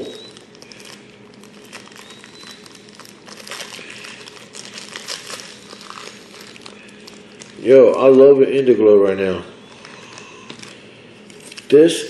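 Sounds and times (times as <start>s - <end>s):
plastic packaging crinkling: 0.0s - 8.6s, 9.6s - 11.8s.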